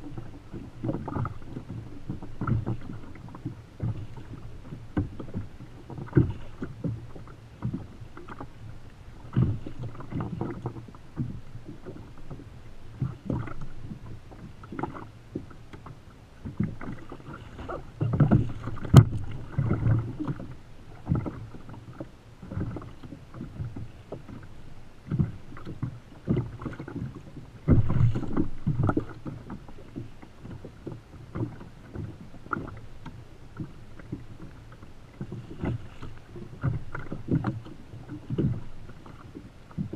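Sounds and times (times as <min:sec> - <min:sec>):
waves slapping kayak hull: 0:00.0 - 0:39.9.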